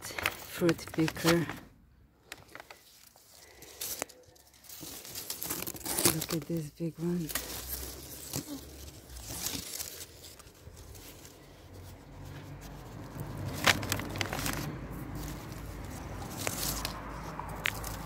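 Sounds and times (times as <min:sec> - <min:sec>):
leaves and twigs rustling: 0:00.0 - 0:01.6, 0:02.2 - 0:18.0
apples picked by hand: 0:00.0 - 0:18.0.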